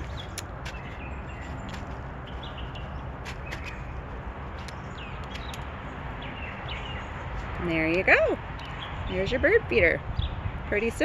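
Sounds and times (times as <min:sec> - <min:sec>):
wild birds chirping: 0:00.0 - 0:09.5, 0:10.1 - 0:10.6
low outdoor background noise: 0:00.0 - 0:11.0.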